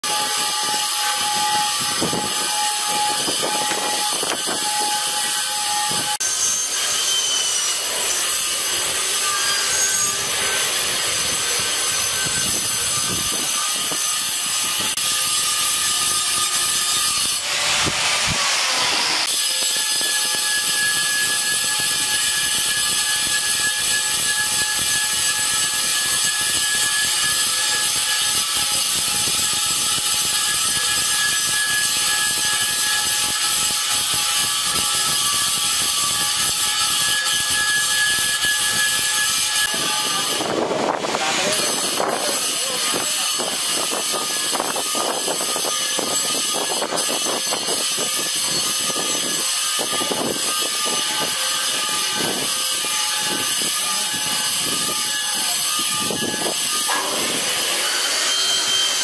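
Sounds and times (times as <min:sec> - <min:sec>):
power tool whining on stone: 0:00.0 - 0:59.0.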